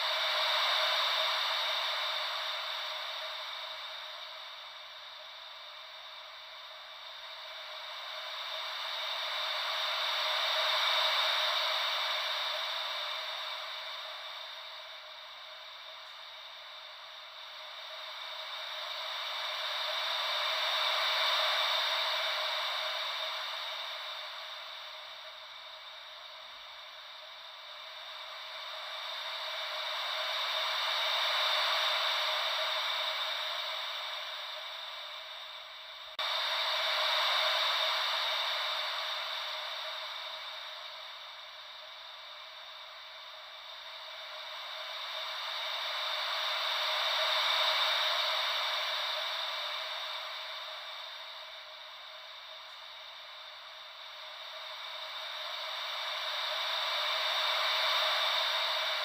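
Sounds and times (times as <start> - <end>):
ocean wave white noise: 0.0 - 59.0.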